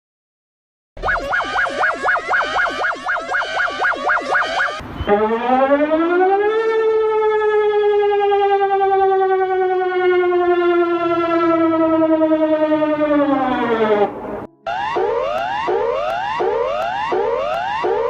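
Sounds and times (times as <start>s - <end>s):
siren wailing: 1.0s - 18.0s.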